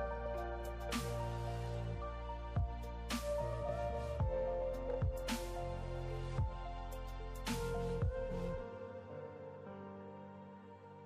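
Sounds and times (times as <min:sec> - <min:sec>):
melodic music with slow beat: 0:00.0 - 0:11.0.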